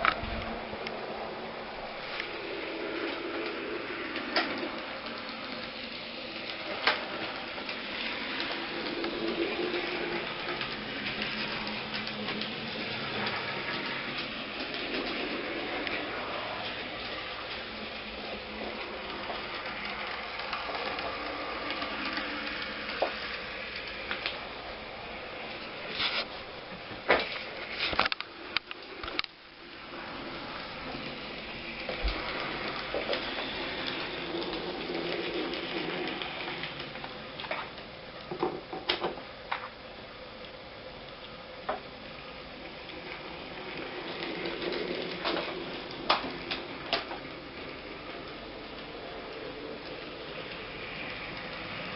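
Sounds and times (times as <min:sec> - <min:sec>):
model train rolling on track: 0:00.0 - 0:51.9.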